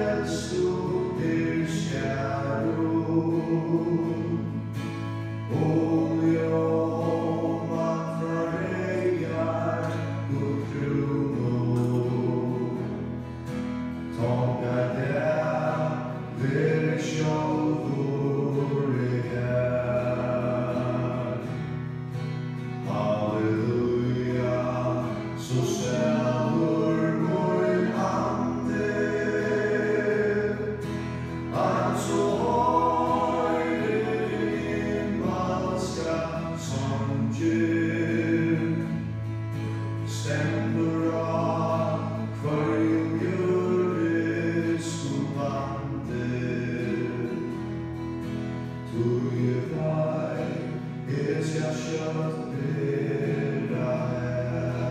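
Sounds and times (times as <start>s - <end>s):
group of people singing: 0.0s - 13.1s, 14.1s - 48.3s, 48.9s - 54.9s
strummed acoustic guitar: 0.0s - 54.9s.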